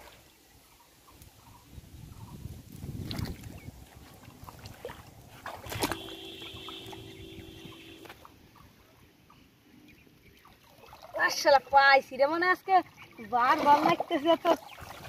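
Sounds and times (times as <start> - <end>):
water sloshing and splashing: 2.6 - 15.0.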